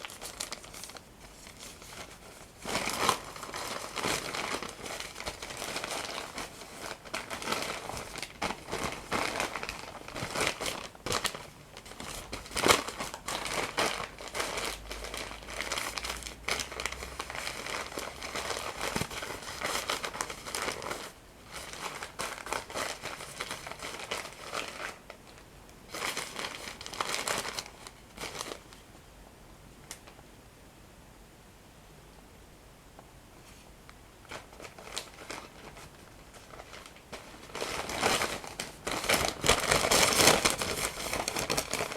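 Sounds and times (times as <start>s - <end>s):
paper crumpling and crinkling: 0.0s - 28.8s, 33.5s - 41.9s.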